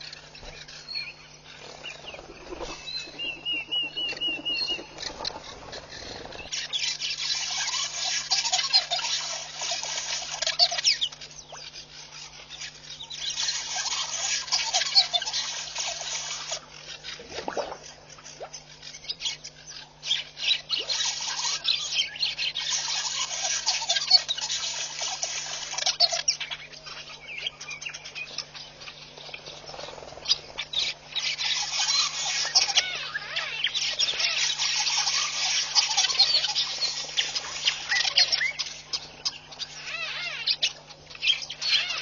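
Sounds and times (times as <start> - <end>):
birds calling and chattering: 0.0 - 42.0
low electrical hum: 0.0 - 42.0.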